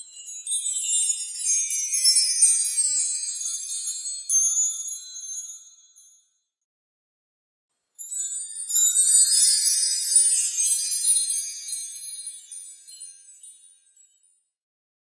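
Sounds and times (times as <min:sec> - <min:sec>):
high tinkling chimes and bells: 0:00.0 - 0:06.6, 0:08.0 - 0:14.6.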